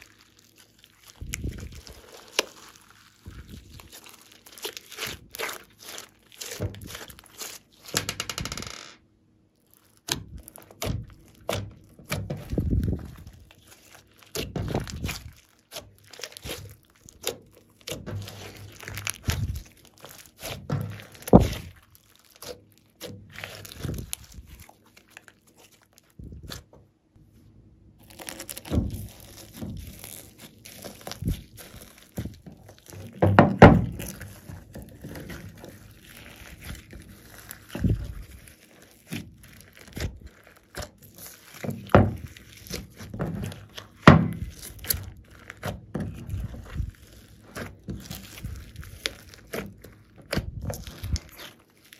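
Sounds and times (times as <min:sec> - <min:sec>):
hands squishing slime: 0:00.0 - 0:08.7, 0:09.6 - 0:26.8, 0:28.0 - 0:51.9.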